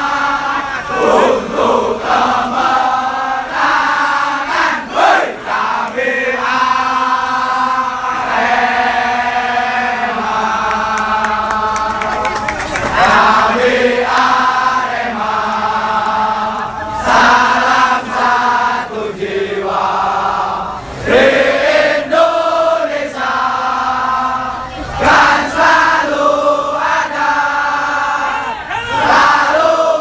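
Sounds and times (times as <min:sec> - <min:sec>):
crowd chanting in unison: 0:00.0 - 0:30.0.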